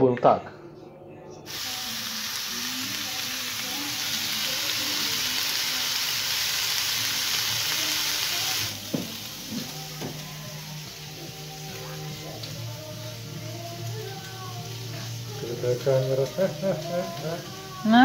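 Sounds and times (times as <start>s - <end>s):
pork sizzling in frying pan: 1.5s - 18.0s.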